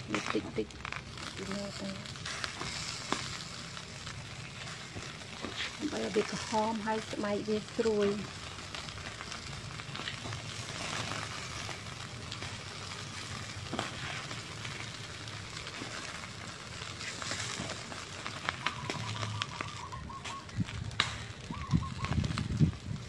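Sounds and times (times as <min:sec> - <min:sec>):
meat sizzling on grill: 0:00.0 - 0:23.0
sharp crackles: 0:00.0 - 0:23.0.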